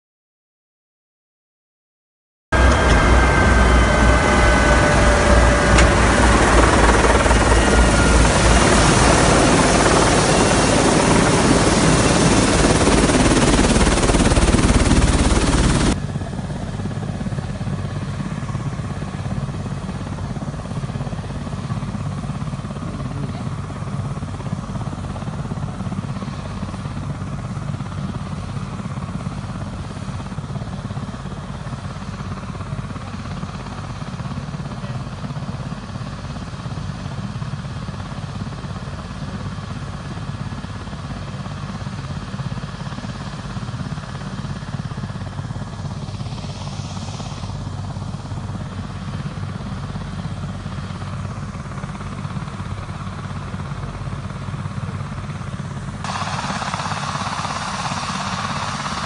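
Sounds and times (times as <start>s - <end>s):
helicopter engine and rotor: 2.5s - 59.0s.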